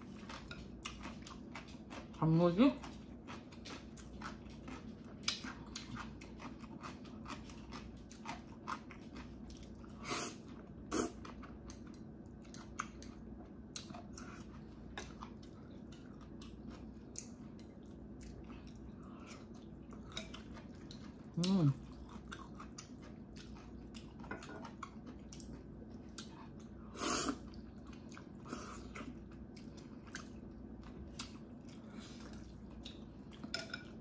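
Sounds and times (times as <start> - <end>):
chewing noodles: 0.0 - 34.0.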